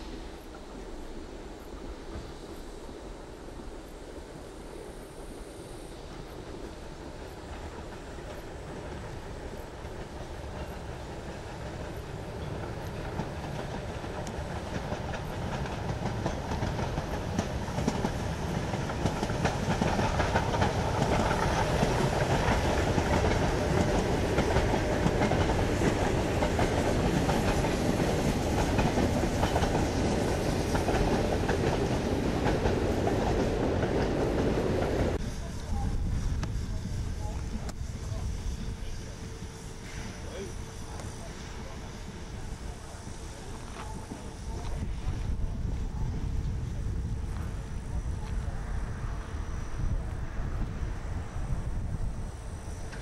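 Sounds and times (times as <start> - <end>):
steam locomotive running past: 0.0 - 53.0
train coaches rolling past: 0.0 - 53.0.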